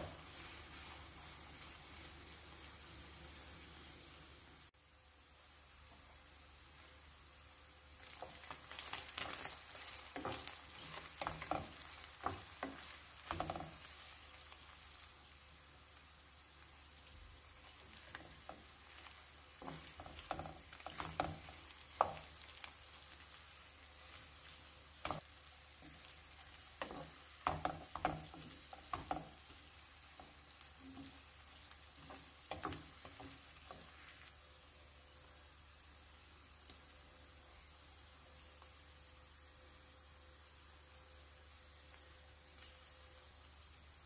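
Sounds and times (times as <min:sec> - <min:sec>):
meat and onions sizzling: 0:00.0 - 0:44.0.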